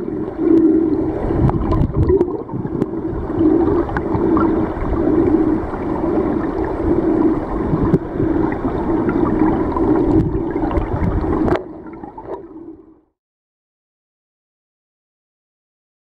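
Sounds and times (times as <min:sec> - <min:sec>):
underwater river rush and gurgle: 0:00.0 - 0:13.1.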